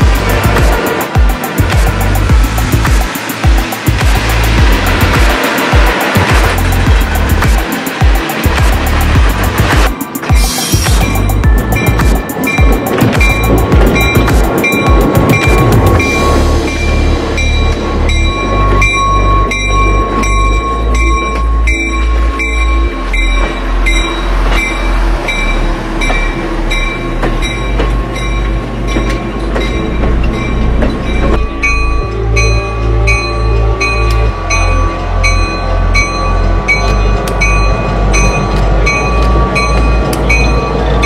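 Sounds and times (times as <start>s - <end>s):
background music with steady beat: 0.0s - 41.0s
passenger train passing slowly: 0.0s - 41.0s.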